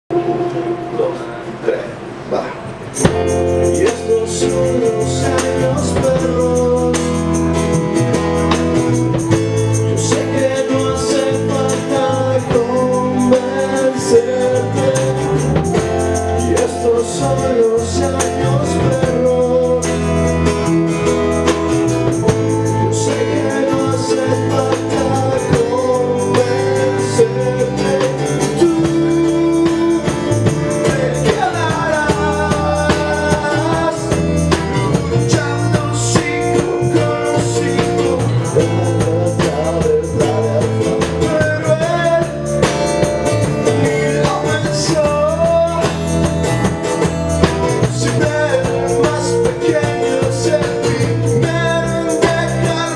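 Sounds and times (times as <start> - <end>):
bass guitar: 0.0 - 52.9
keyboard: 0.0 - 52.9
electric guitar: 0.1 - 52.9
man singing: 0.1 - 52.9.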